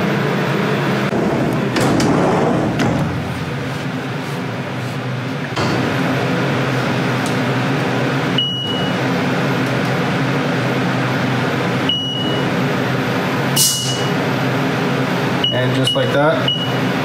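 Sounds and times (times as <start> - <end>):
milling machine hum: 0.0 - 15.5.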